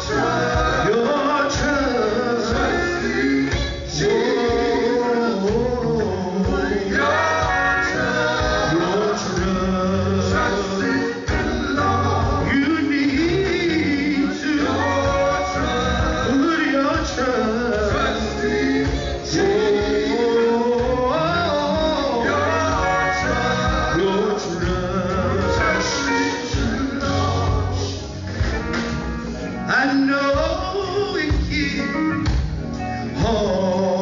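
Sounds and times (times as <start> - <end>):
man singing lead: 0.0 - 28.0, 29.6 - 32.3, 33.0 - 34.0
backing vocal harmonies: 0.0 - 34.0
bass guitar: 0.0 - 34.0
drums: 0.0 - 34.0
electric guitar: 0.0 - 34.0.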